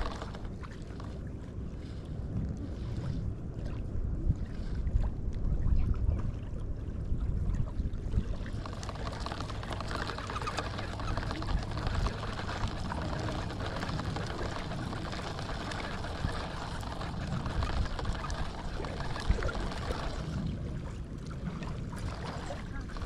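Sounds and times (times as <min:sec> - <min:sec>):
water at lake edge: 0:00.0 - 0:23.0
wind on microphone: 0:00.0 - 0:23.0.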